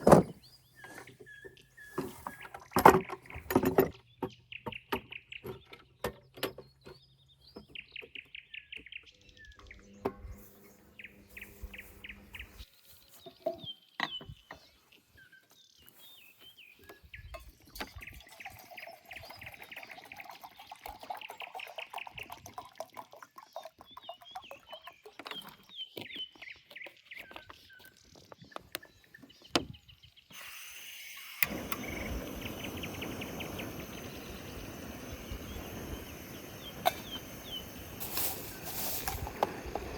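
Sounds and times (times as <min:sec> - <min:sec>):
songbirds trilling: 0:00.0 - 0:30.4, 0:31.3 - 0:39.9.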